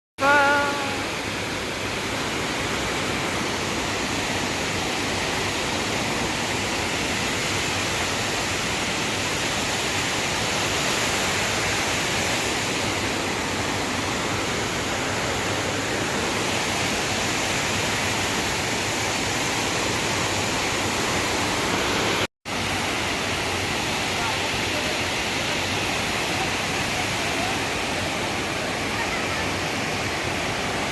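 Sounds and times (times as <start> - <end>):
waterfall rushing: 0.2 - 30.9.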